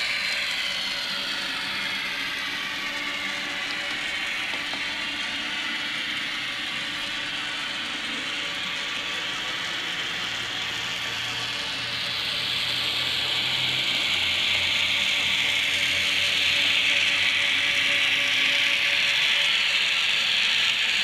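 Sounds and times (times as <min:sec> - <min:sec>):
model locomotive mechanical hissing: 0:00.0 - 0:21.0.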